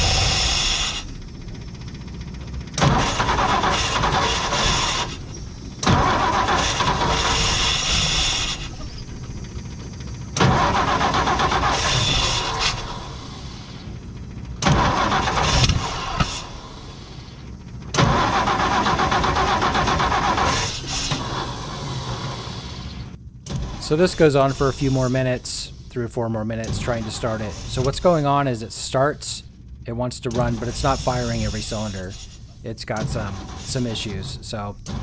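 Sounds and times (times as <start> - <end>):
engine cranking and starting: 0.0 - 25.9, 26.5 - 28.5, 30.2 - 35.0.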